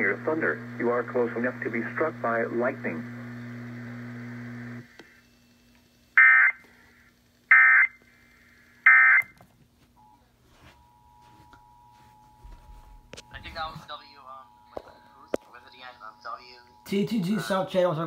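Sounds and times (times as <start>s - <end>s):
low steady radio hum: 0.0s - 9.4s, 10.0s - 18.0s.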